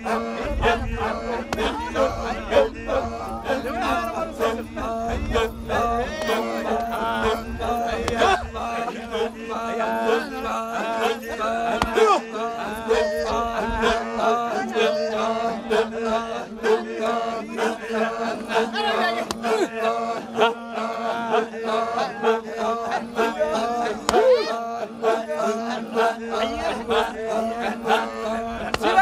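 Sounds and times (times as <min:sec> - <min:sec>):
group of voices chanting: 0:00.0 - 0:29.0.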